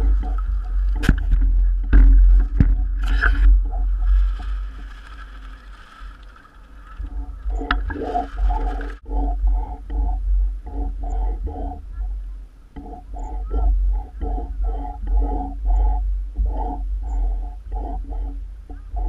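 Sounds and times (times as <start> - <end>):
deep rumble: 0.0 - 19.0
water sloshing and gurgling: 0.0 - 19.0.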